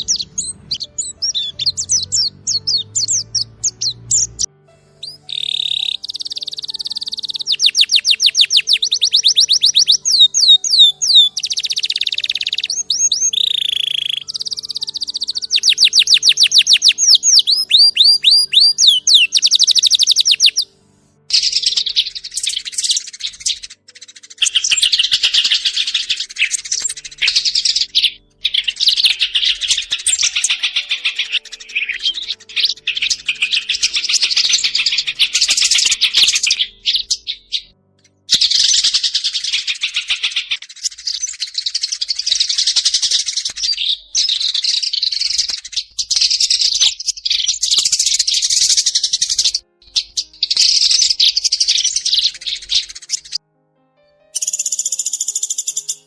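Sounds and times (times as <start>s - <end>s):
small birds chirping and trilling: 0.0s - 53.4s, 54.3s - 56.0s.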